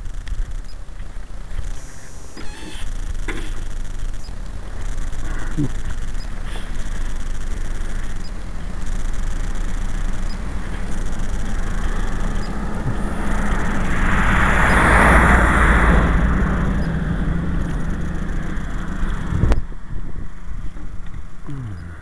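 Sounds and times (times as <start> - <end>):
vehicle passing on road: 0.0 - 21.4
steady low hum: 0.0 - 22.0.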